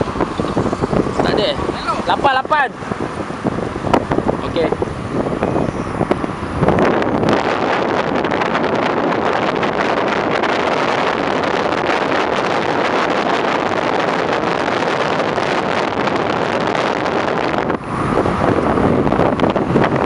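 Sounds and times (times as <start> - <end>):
car road noise: 0.0 - 20.0
wind buffeting microphone: 0.0 - 20.0.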